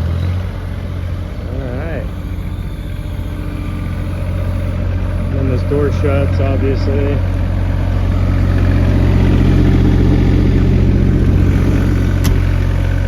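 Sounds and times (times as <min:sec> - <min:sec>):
small diesel engine idling: 0:00.0 - 0:13.0.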